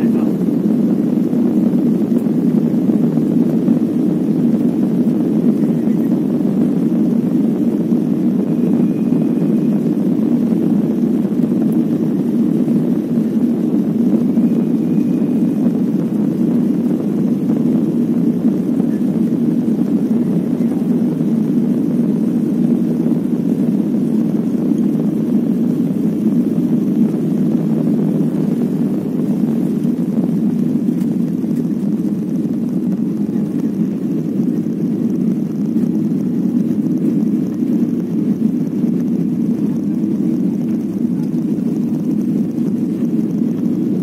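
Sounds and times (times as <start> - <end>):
jet engines rumbling: 0.0 - 44.0.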